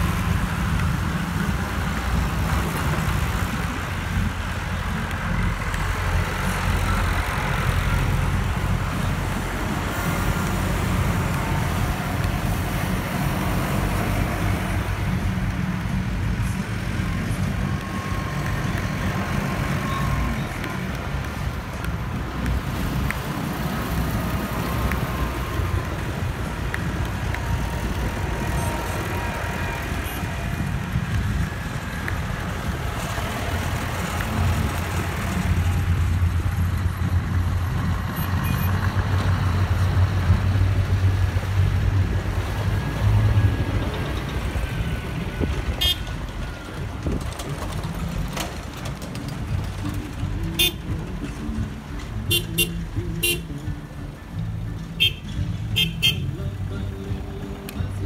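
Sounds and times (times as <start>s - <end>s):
diesel engines of passing vehicles: 0.0s - 58.0s.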